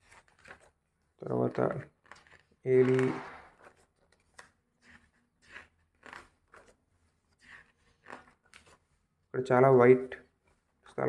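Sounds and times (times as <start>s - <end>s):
book page rustling and turning: 0.0s - 9.2s, 10.2s - 11.0s.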